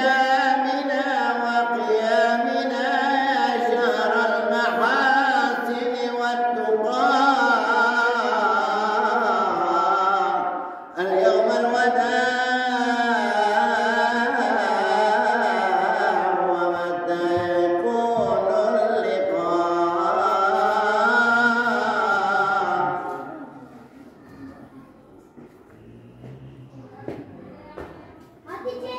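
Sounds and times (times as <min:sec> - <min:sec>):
man singing religious chant: 0:00.0 - 0:23.6.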